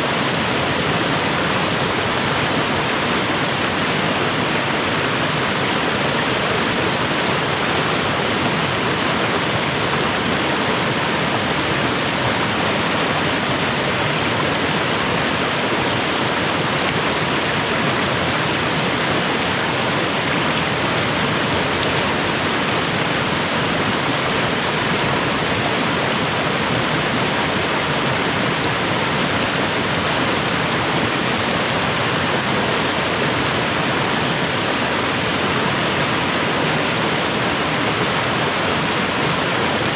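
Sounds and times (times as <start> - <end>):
creek and waterfalls rushing: 0.0 - 39.9.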